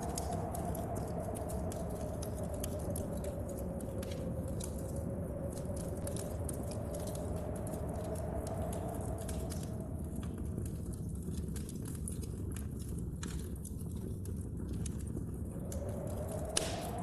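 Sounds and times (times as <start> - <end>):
rain: 0.0 - 17.0
storm wind: 0.0 - 17.0
wood fire crackling: 0.0 - 17.0.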